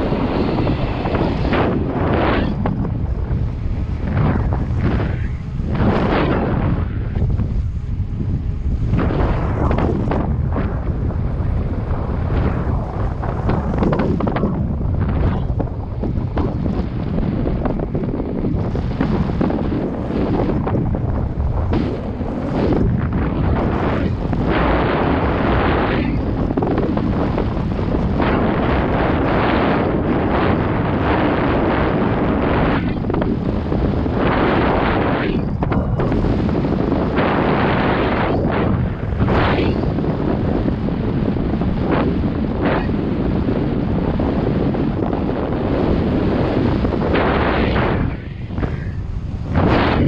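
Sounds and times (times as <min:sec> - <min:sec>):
mountain bike rumble and rattle: 0:00.0 - 0:50.0
wind buffeting microphone: 0:00.0 - 0:50.0.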